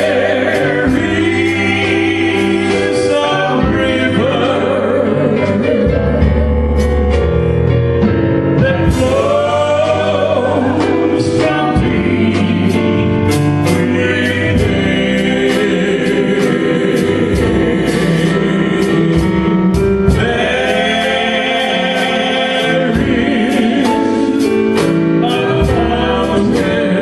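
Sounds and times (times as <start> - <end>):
drum and cymbal strikes: 0.0 - 27.0
gospel singing with band: 0.0 - 27.0.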